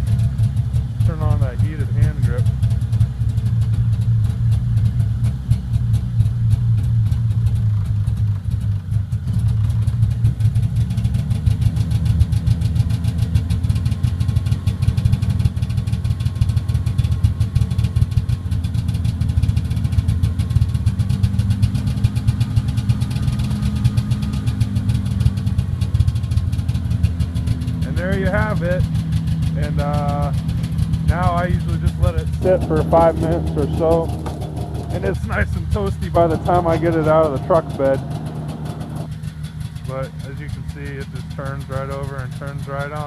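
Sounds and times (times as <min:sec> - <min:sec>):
snowmobile engine idling: 0:00.0 - 0:43.0.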